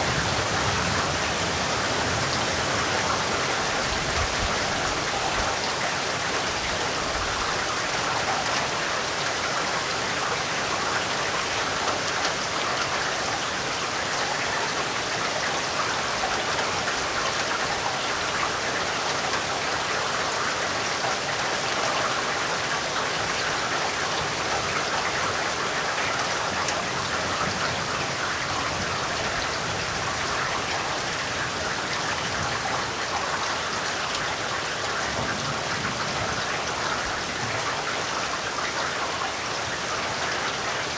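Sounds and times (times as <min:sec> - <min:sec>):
raindrops pattering on a surface: 0:00.0 - 0:40.9.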